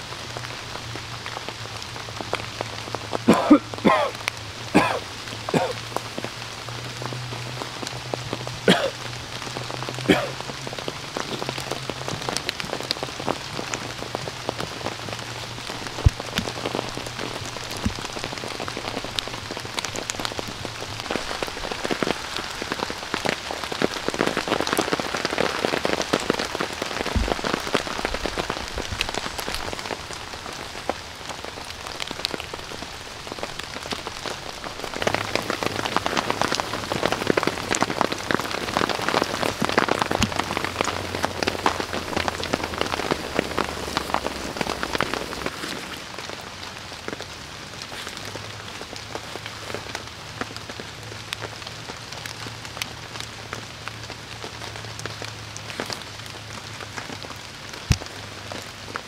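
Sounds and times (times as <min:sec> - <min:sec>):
rain on a tarp: 0:00.0 - 0:59.0.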